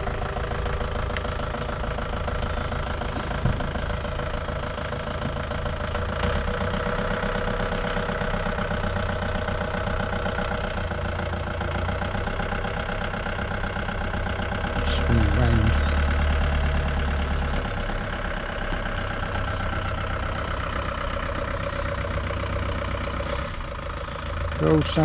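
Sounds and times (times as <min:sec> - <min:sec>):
van engine idling: 0:00.0 - 0:25.0.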